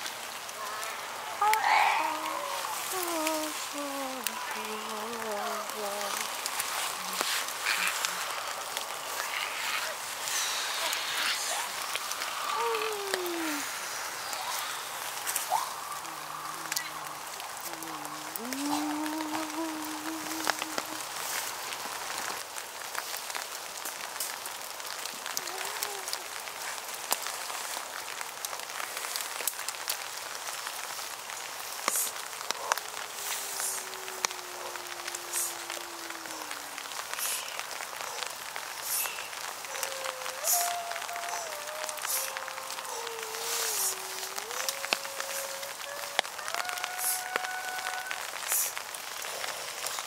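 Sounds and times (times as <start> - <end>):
hands rustling soil and leaves: 0.0 - 50.0
light rain pattering: 0.0 - 50.0
small ticks: 0.7 - 22.4, 25.0 - 50.0.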